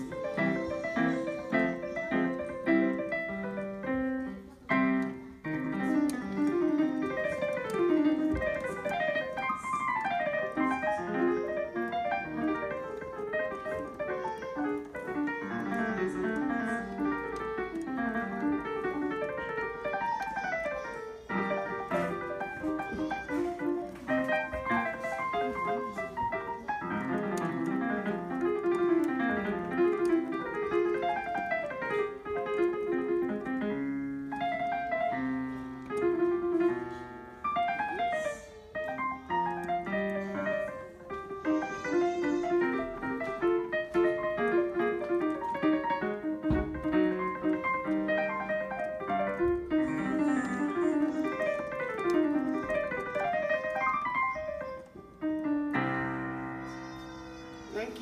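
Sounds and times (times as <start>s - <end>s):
digital piano playing: 0.0s - 58.0s.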